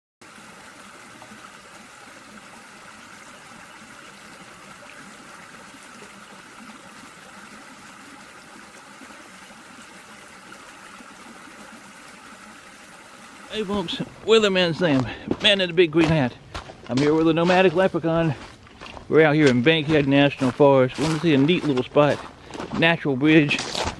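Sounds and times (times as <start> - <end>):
running water: 0.2 - 23.4.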